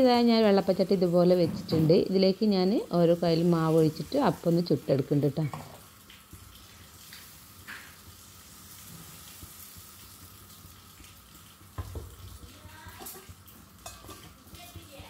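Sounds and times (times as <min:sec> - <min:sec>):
batter sizzling in a pan: 0:00.0 - 0:15.0.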